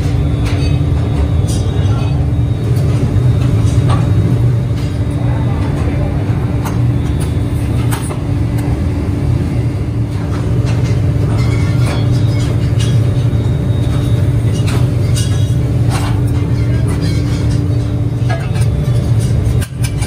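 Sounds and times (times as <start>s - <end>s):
die-casting machine hum: 0.0s - 20.0s.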